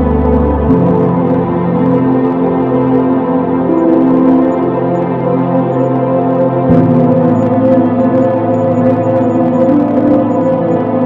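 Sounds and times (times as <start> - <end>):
ambient music sustained chord: 0.0 - 11.0.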